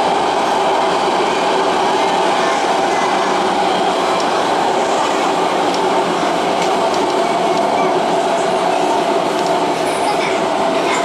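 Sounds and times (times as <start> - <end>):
train running noise with hum: 0.0 - 11.0.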